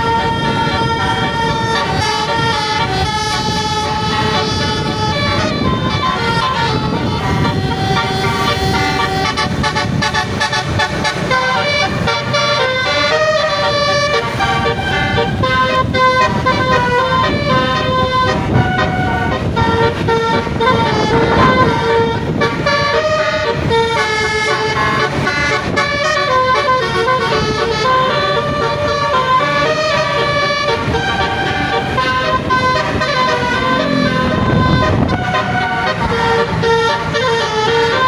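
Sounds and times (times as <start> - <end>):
air horn playing a melody: 0.0 - 38.0
bus running noise: 0.0 - 38.0.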